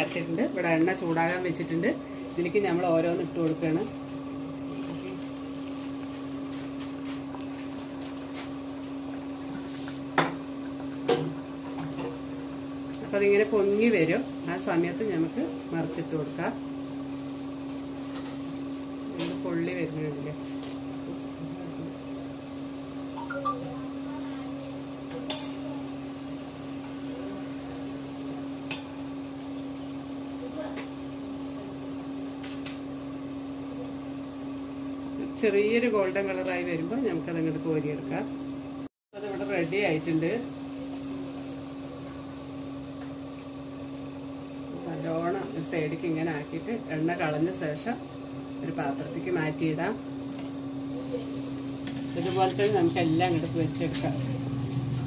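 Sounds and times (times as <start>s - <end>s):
food sizzling in hot oil: 0.0s - 37.6s, 38.5s - 55.0s.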